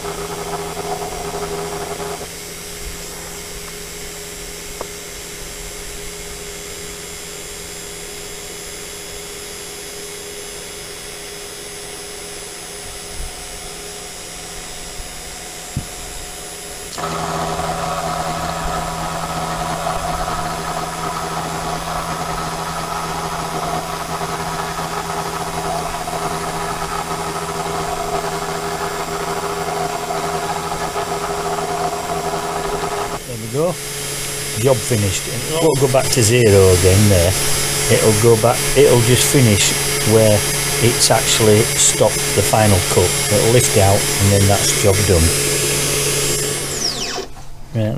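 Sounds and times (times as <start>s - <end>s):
router bit cutting wood: 0.0s - 47.6s
router spindle running: 0.0s - 47.6s.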